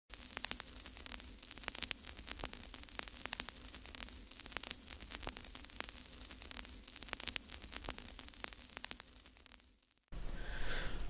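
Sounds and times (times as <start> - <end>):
sharp crackling clicks: 0.1 - 10.1
low hiss: 0.1 - 11.0.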